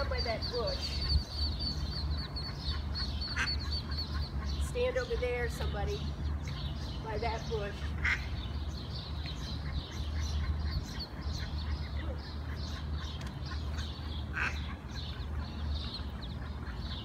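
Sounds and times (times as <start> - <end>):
ducklings peeping: 0.0 - 17.0
steady low hum: 0.0 - 17.0.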